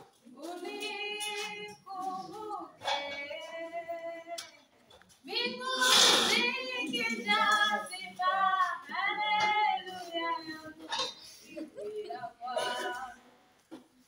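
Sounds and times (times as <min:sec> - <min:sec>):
girl singing: 0:00.3 - 0:04.7, 0:05.3 - 0:10.9, 0:11.5 - 0:13.2.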